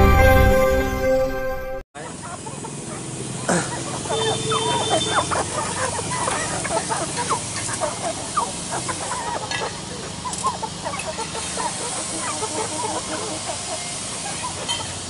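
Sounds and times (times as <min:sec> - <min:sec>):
chickens clucking: 0:02.0 - 0:15.0.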